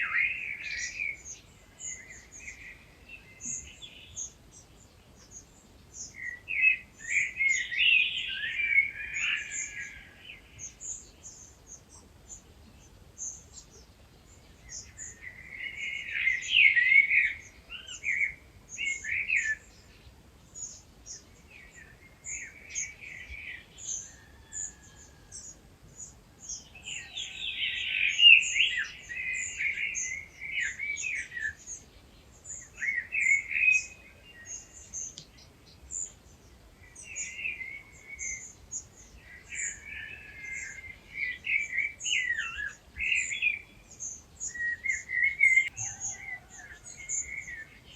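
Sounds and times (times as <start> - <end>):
birds warbling song: 0.0 - 47.9.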